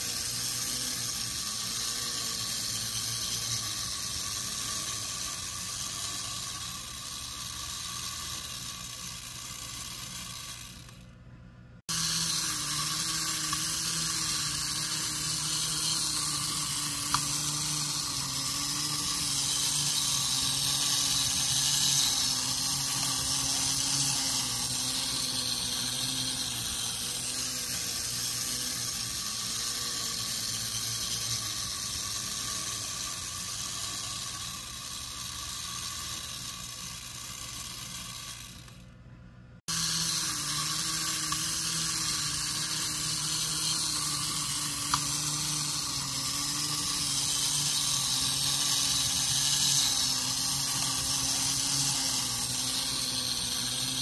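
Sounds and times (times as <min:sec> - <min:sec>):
wind-up toy motor whirring: 0:00.0 - 0:11.2, 0:11.8 - 0:39.0, 0:39.6 - 0:54.0.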